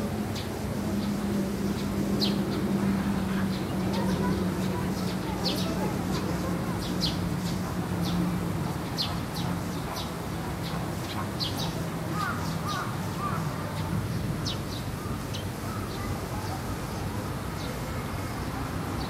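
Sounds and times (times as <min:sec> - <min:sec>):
low background murmur: 0:00.0 - 0:19.0.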